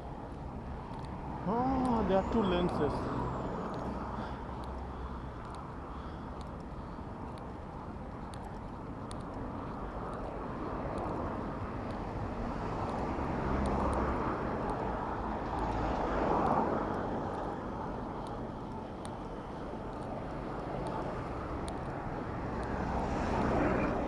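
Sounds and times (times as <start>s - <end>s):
traffic noise rush: 0.0s - 24.0s
vehicles passing: 0.0s - 24.0s.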